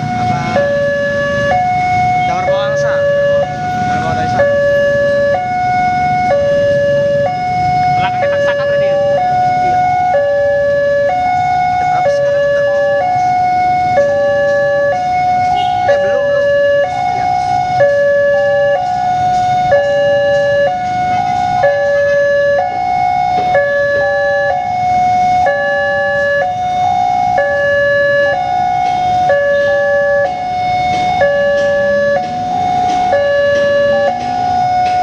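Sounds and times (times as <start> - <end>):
level crossing warning sirens: 0.0 - 35.0
road traffic: 0.0 - 35.0.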